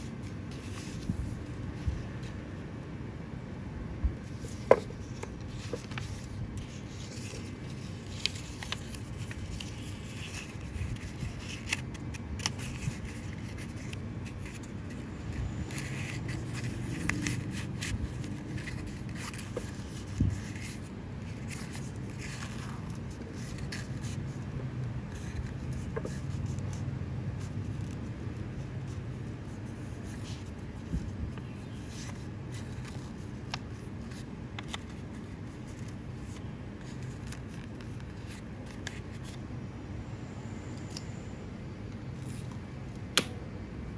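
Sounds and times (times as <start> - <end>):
paper rustling and crinkling: 0.0 - 2.6, 4.2 - 39.4.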